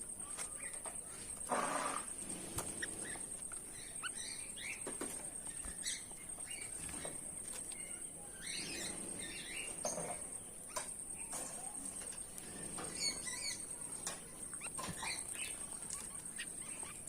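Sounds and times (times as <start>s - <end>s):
finches chirping: 0.0s - 17.0s.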